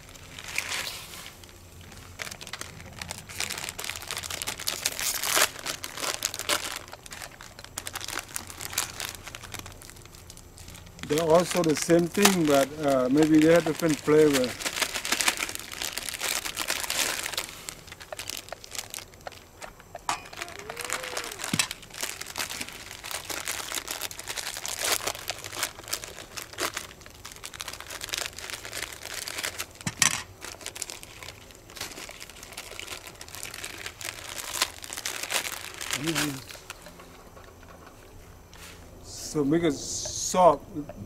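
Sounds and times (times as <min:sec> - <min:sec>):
plastic wrappers crinkling: 0:00.0 - 0:38.7.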